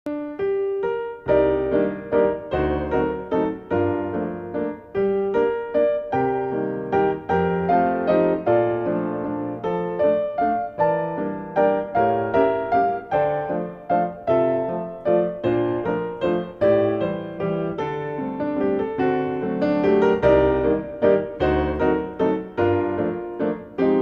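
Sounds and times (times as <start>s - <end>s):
piano music: 0.1s - 24.0s.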